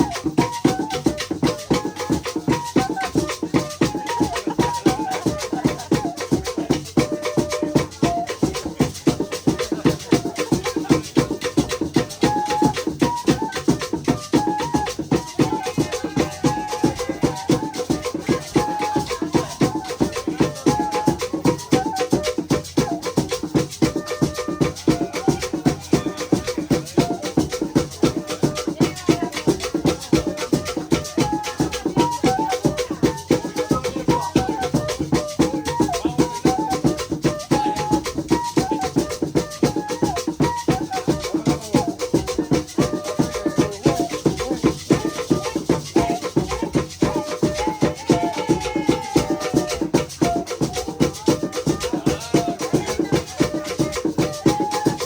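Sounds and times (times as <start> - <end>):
drum beats: 0.0 - 55.0
shaken rattles: 0.0 - 55.0.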